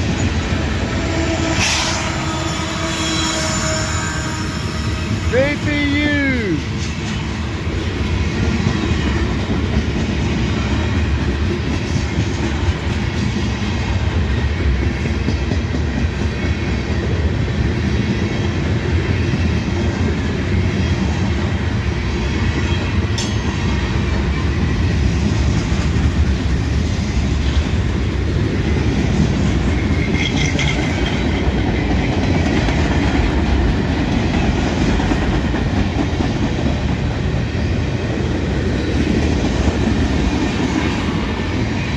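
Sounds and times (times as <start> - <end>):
train wheels clattering over rails: 6.6 - 41.9.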